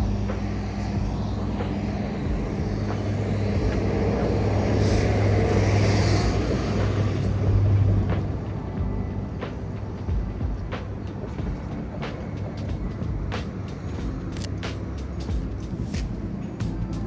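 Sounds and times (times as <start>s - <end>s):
street noise: 0.0s - 17.0s
vehicle engine hum: 0.0s - 17.0s.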